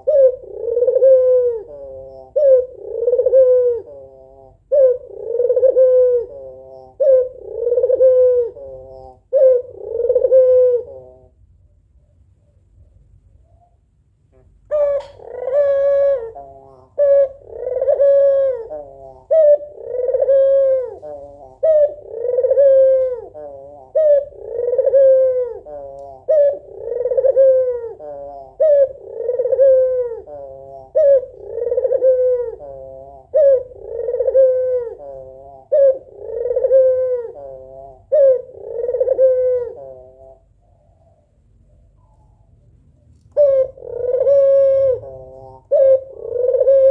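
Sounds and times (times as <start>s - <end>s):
dove cooing: 0.0s - 11.5s, 13.4s - 42.6s, 43.3s - 46.9s.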